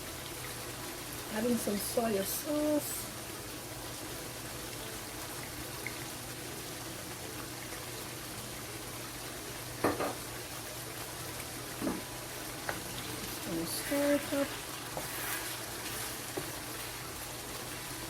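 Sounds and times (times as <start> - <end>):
stew bubbling and sizzling: 0.0 - 18.0.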